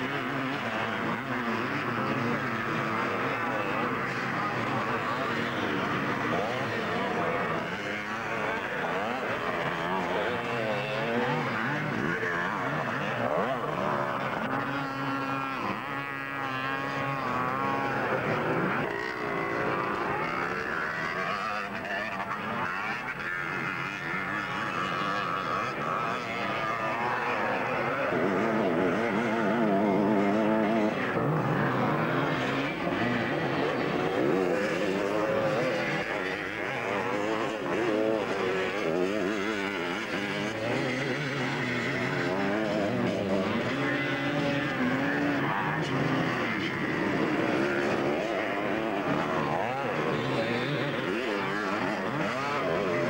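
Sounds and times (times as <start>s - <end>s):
motocross bikes revving: 0.0s - 53.0s.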